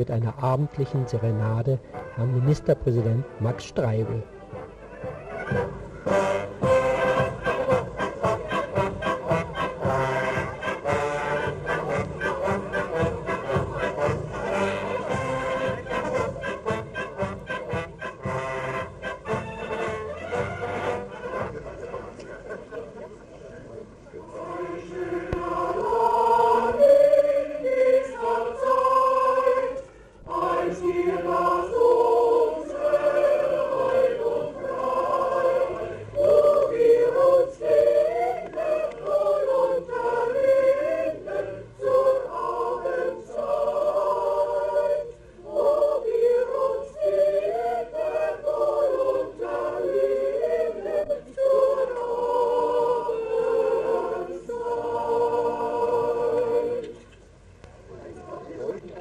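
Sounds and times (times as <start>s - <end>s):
mixed choir singing: 5.4s - 22.8s, 24.2s - 57.1s.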